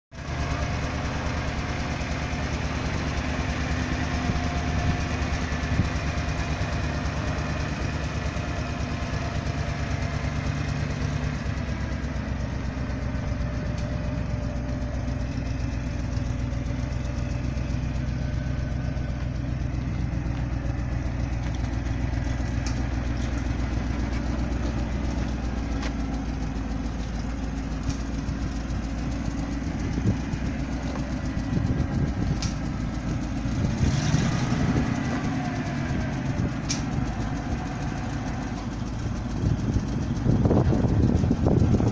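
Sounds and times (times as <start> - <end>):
truck engine idling: 0.1 - 41.9.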